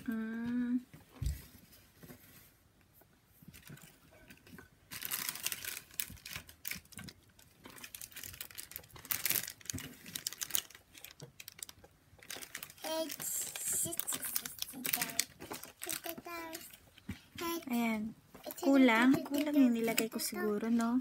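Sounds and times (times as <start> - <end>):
scratchy rustling and crinkling: 1.0 - 21.0.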